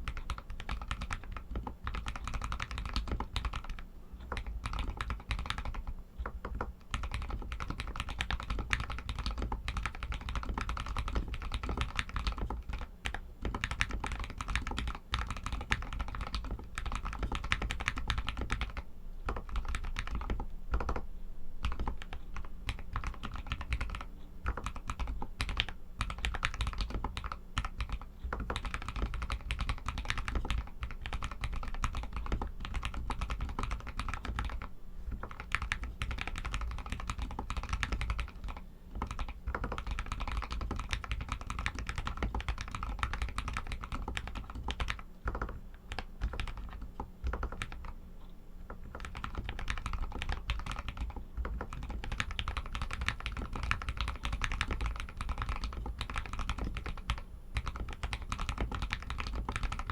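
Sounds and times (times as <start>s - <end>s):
fast mechanical keyboard typing: 0.0s - 48.0s, 48.7s - 59.9s.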